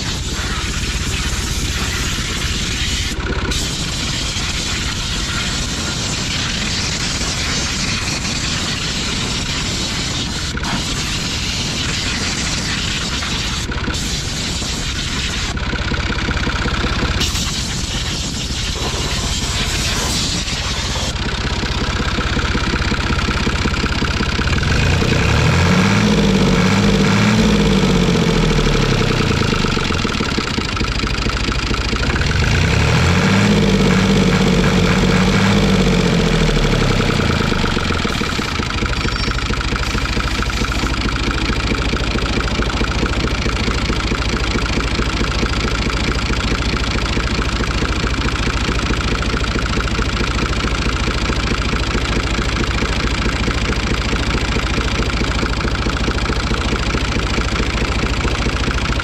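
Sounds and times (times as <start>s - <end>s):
tractor diesel engine running rough: 0.0s - 59.0s.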